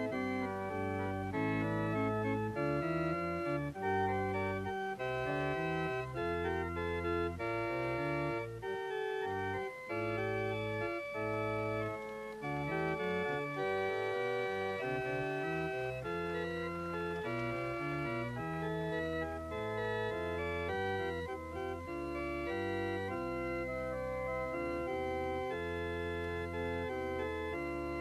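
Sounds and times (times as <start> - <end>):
church organ playing chords: 0.0 - 28.0.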